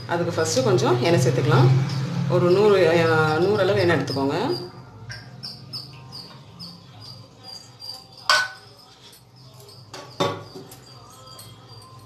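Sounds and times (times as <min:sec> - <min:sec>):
small bird chirping: 0:01.5 - 0:12.0.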